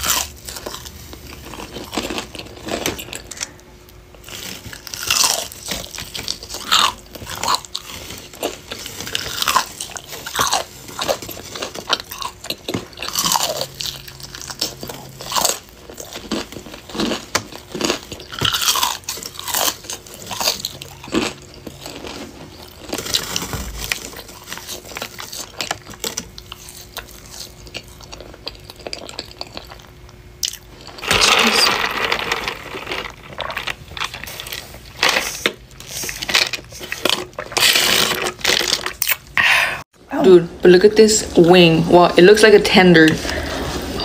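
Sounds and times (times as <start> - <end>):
crunching and chewing fried chicken: 0.0 - 39.4.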